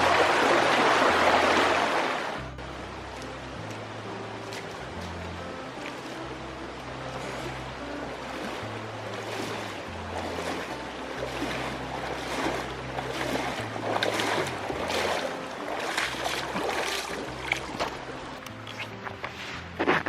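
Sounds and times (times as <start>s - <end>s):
creek and waterfall rushing: 0.0s - 18.5s
background music with low bass: 0.0s - 20.0s.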